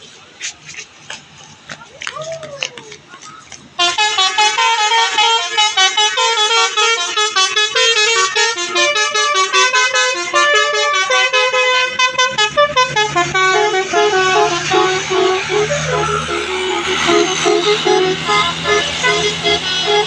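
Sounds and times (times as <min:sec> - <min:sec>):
low engine rumble: 0:00.0 - 0:20.0
musical bus air horn melody: 0:03.8 - 0:20.0.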